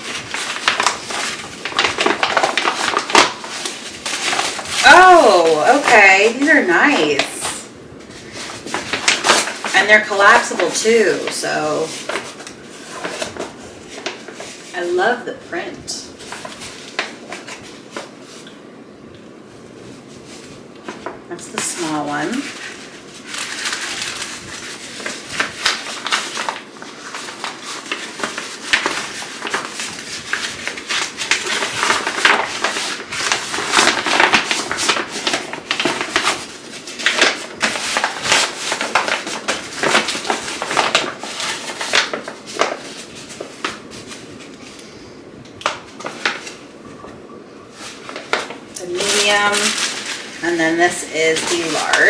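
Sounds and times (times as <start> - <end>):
fabric baskets rustling and crinkling: 0.0 - 18.7, 19.3 - 52.0.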